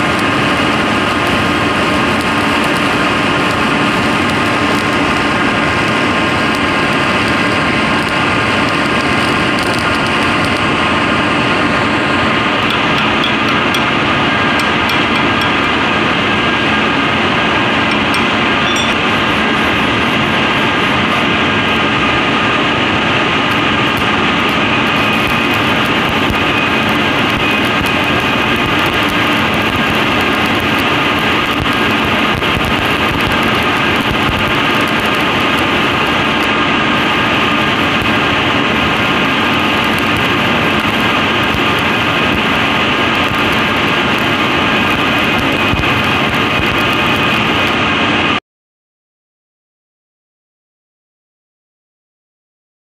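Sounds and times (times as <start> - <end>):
machine hum: 0.0 - 48.4
welding arc crackle: 0.0 - 48.4.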